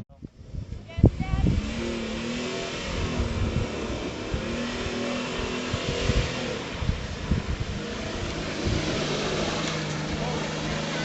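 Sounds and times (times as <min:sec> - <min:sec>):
car engine revving: 0:00.3 - 0:11.0.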